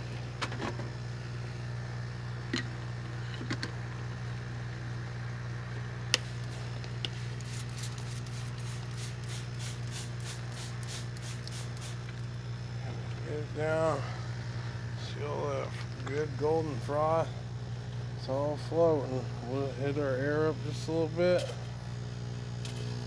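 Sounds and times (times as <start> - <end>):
air pump humming: 0.0 - 23.0.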